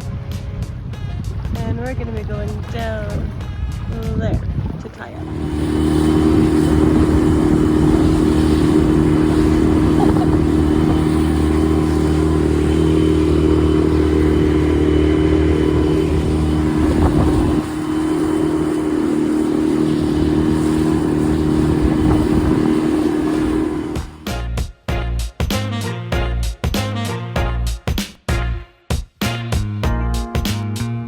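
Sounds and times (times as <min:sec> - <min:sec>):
outboard motor running: 0:00.0 - 0:25.2.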